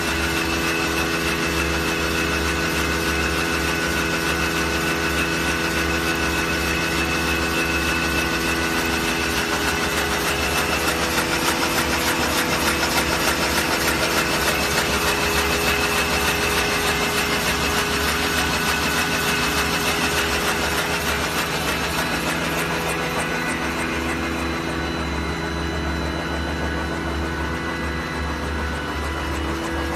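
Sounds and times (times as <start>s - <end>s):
machine humming with held tones: 0.0s - 29.9s
rapid even machine clatter: 0.0s - 29.9s.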